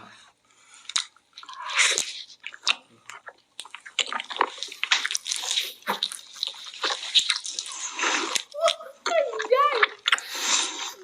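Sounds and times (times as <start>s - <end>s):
smacking mouth noises: 0.8s - 11.0s
wet chewing and biting: 0.8s - 11.0s.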